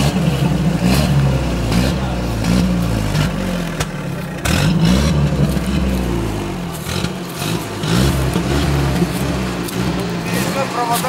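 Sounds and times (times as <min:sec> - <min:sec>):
jeep engine revving under load: 0:00.0 - 0:11.0.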